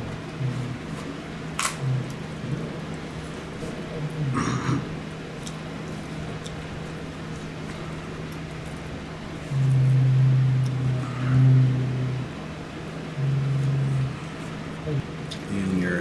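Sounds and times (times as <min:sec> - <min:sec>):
loud low hum: 0:00.0 - 0:16.0
steady low hum: 0:00.0 - 0:16.0.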